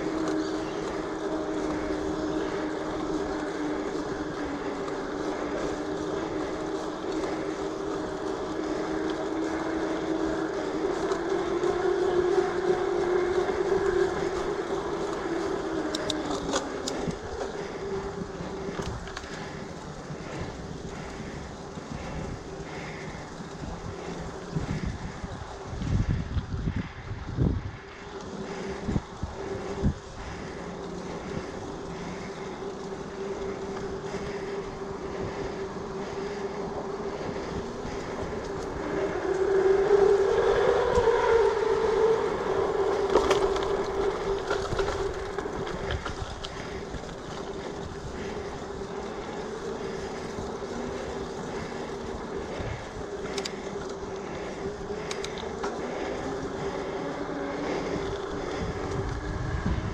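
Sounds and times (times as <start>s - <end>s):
bicycle tyre hum: 0.0s - 59.9s
wind on microphone: 0.0s - 59.9s.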